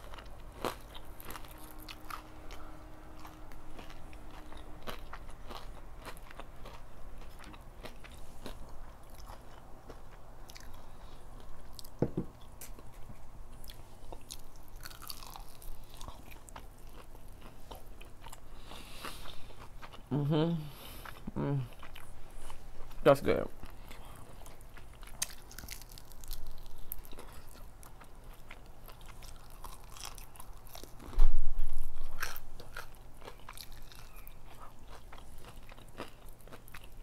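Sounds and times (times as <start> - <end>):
crunching fried chicken: 0.0 - 12.0, 13.6 - 20.1, 23.0 - 37.0.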